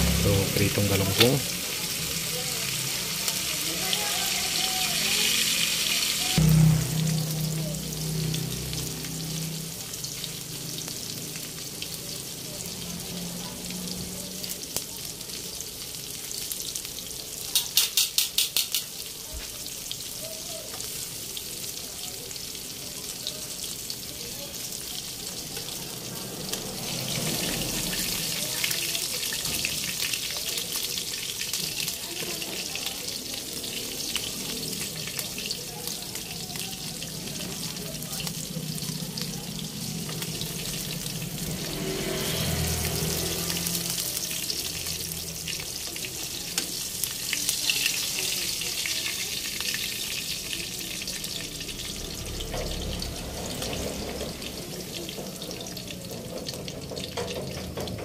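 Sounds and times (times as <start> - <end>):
fish sizzling in hot oil: 0.0 - 58.0
sharp clicks of frying: 0.0 - 58.0.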